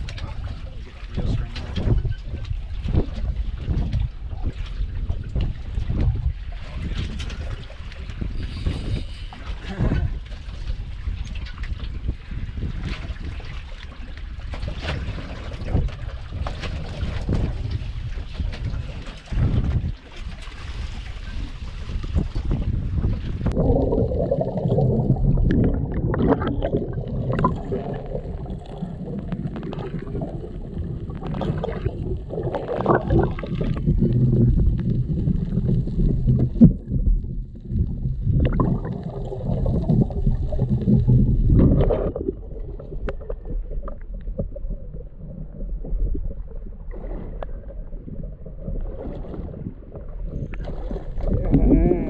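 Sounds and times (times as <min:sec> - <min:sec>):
muffled underwater water rushing: 0:00.0 - 0:52.0.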